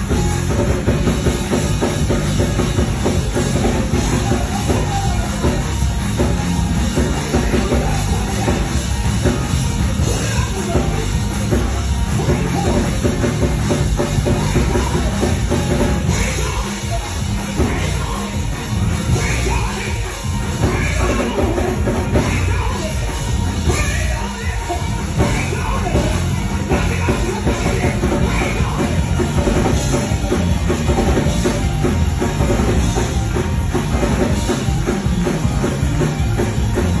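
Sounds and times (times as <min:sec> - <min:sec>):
driving drum kit: 0:00.0 - 0:37.0
live band playing: 0:00.0 - 0:37.0.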